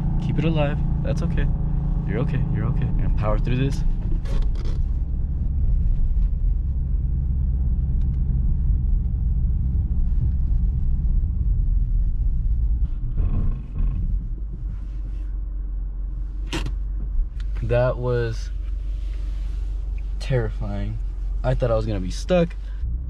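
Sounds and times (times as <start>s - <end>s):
car engine pulling hard: 0.0s - 23.0s.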